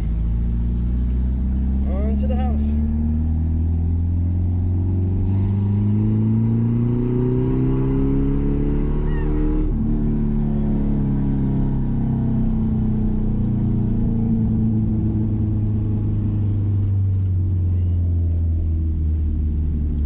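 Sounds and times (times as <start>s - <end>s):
pickup engine accelerating: 0.0s - 20.0s.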